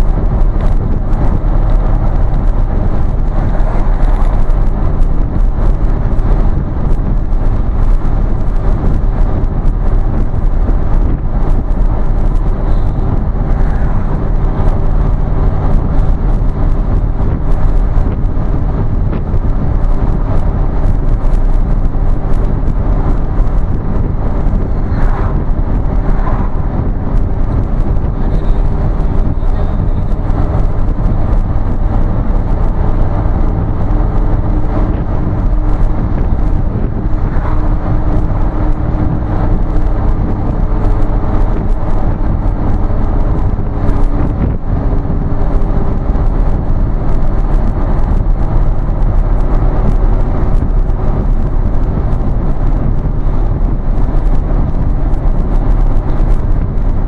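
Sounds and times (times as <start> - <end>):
vehicle engine and tyre drone: 0.0 - 57.0.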